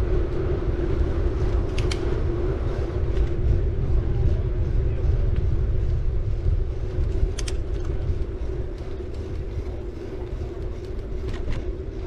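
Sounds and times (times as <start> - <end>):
bike tyres humming on road: 0.0 - 12.0
wind rumble on microphone: 0.0 - 12.0.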